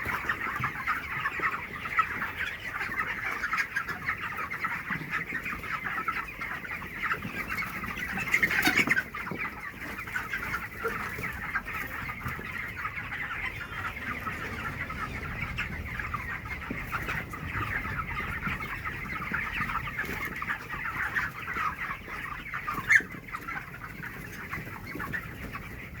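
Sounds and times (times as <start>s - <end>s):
chickens peeping and clucking: 0.0s - 26.0s.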